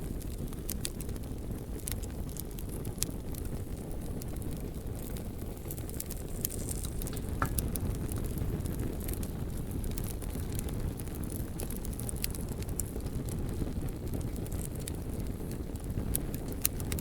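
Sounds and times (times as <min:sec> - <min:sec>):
burning wood crackling: 0:00.0 - 0:17.0
roar of flames: 0:00.0 - 0:17.0
fire hissing: 0:00.1 - 0:17.0.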